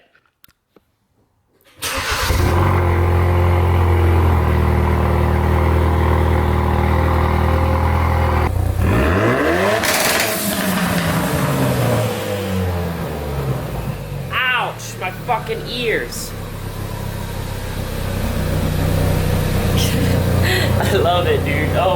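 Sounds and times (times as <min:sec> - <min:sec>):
car engine starting and idling: 0:01.7 - 0:21.9.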